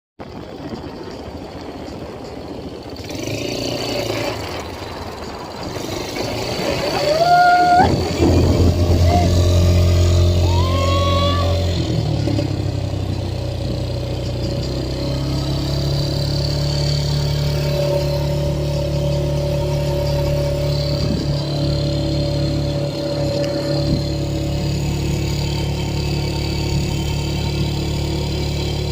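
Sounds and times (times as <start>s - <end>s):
atv engine running: 0.2s - 28.9s.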